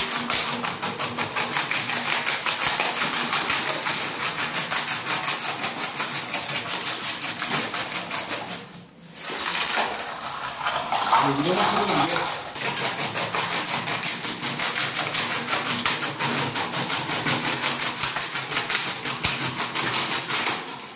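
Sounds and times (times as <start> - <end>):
floor-demolition machine rattling: 0.0 - 20.9.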